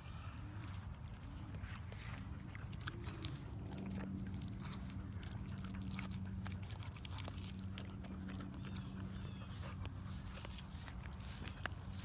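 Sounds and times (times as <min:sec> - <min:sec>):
dog chewing watermelon: 0:00.0 - 0:12.0
steady low hum: 0:00.0 - 0:12.0.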